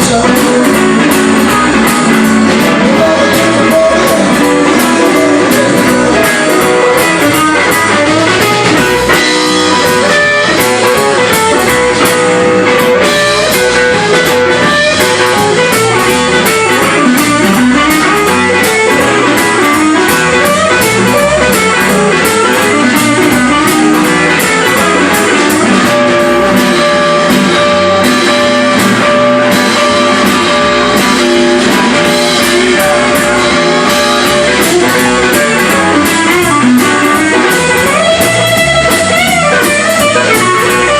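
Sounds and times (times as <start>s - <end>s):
blues-rock band playing: 0.0s - 40.9s
electric guitar: 0.0s - 40.9s.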